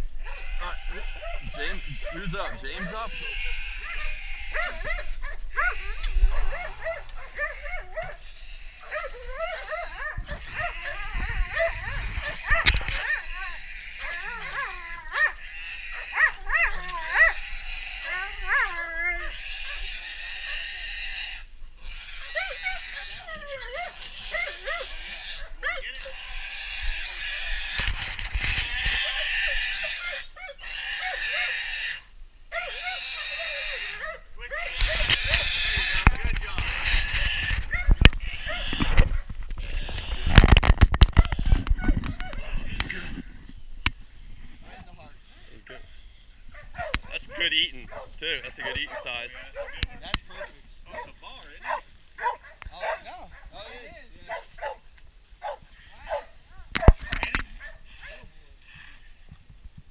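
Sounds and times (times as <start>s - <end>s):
dogs whining and yipping: 0.2s - 20.6s, 22.1s - 26.2s, 26.8s - 31.6s, 32.5s - 43.4s, 46.5s - 54.8s, 55.4s - 58.3s
animal squealing: 0.2s - 43.5s, 44.6s - 54.8s.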